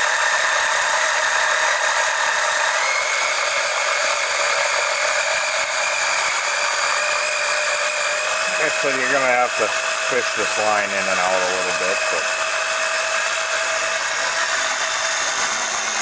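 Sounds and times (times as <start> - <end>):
oil pump whining: 0.0 - 16.0.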